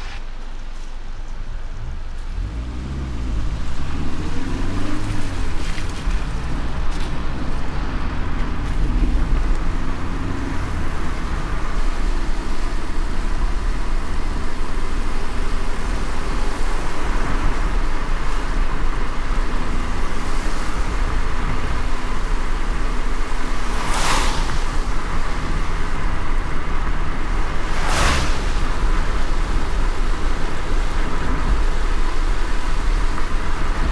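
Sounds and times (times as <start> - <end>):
car road and engine rumble: 0.0 - 33.9
rain hiss on wet road: 0.0 - 33.9.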